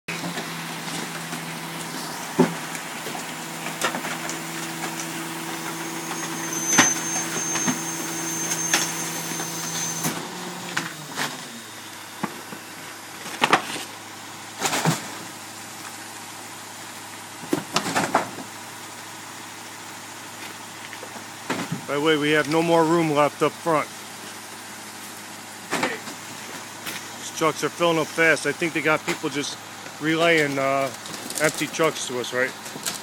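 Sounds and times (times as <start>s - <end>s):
garbage truck engine humming: 0.1s - 33.0s.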